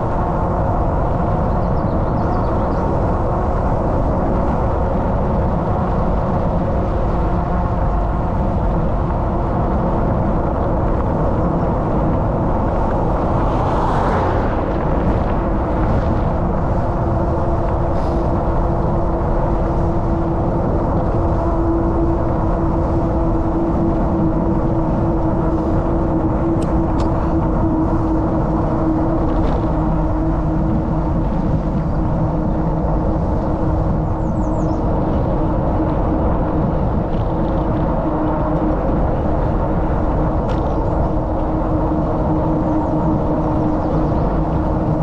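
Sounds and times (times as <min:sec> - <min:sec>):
bicycle tyres rolling on asphalt: 0:00.0 - 0:45.0
wind rushing over microphone: 0:00.0 - 0:45.0.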